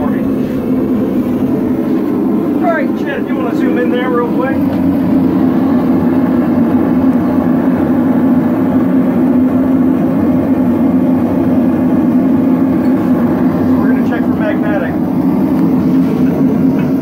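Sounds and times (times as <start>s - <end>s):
gas forge burner rushing: 0.0s - 17.0s
low hum: 0.0s - 17.0s.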